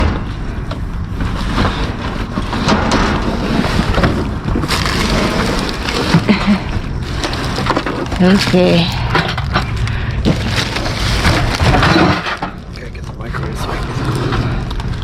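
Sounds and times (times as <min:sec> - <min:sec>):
rustles and knocks: 0:00.0 - 0:15.0.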